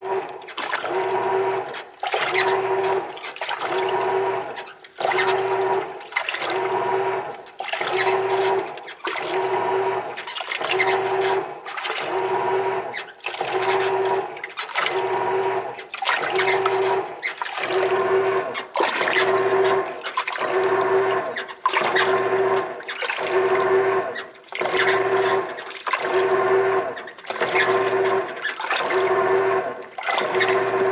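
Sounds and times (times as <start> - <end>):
washing machine agitating: 0.0 - 30.9
water sloshing in tub: 0.0 - 30.9.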